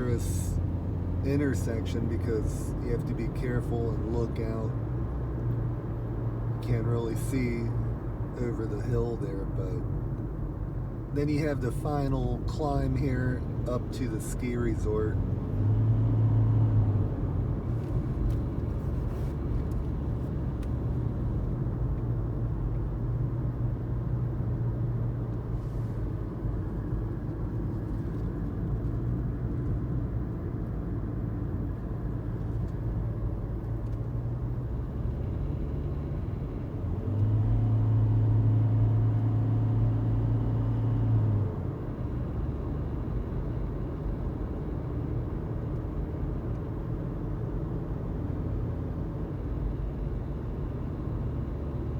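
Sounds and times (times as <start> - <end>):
car engine drone: 0.0 - 51.9
road noise: 0.0 - 51.9.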